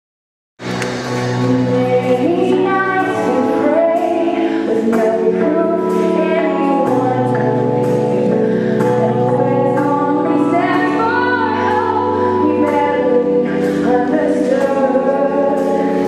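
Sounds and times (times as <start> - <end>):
sustained instrumental notes: 0.6 - 16.0
woman singing into a microphone: 1.4 - 16.0.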